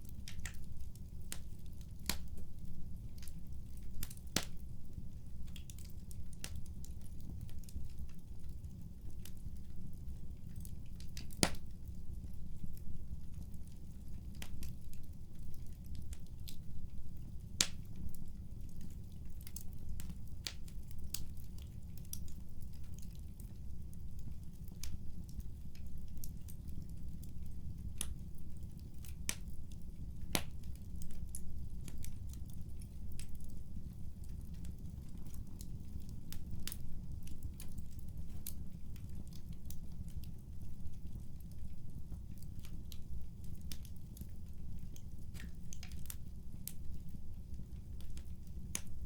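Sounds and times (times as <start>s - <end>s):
low rumble of fire: 0.0s - 49.0s
wood fire crackling: 0.0s - 49.0s.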